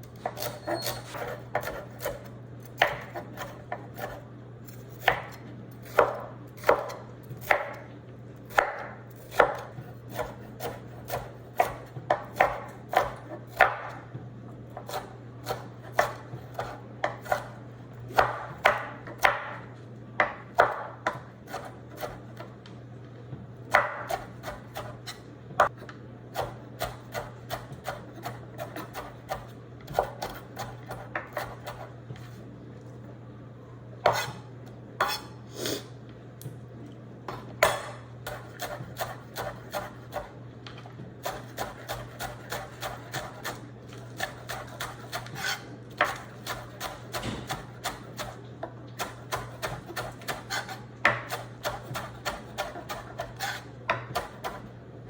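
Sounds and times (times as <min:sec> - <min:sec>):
knife chopping on cutting board: 0:00.2 - 0:07.8, 0:08.5 - 0:14.0, 0:14.8 - 0:19.6, 0:20.2 - 0:22.5, 0:23.7 - 0:31.9, 0:34.1 - 0:34.4, 0:35.0 - 0:35.3, 0:37.3 - 0:40.3, 0:41.2 - 0:48.4, 0:49.0 - 0:54.6
steady low hum: 0:01.1 - 0:55.0.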